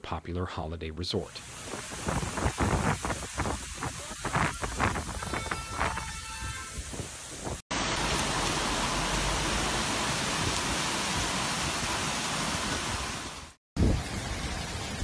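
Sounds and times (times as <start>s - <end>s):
torrential rain pouring: 1.4s - 15.0s.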